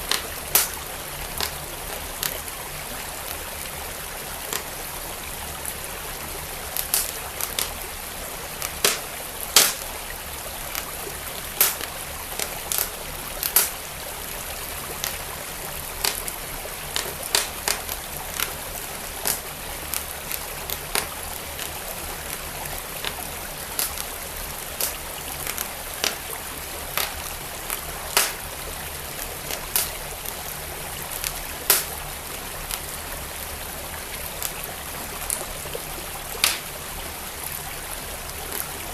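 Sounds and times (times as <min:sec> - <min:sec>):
flowing stream: 0:00.0 - 0:38.9
wood fire crackling: 0:00.0 - 0:38.9.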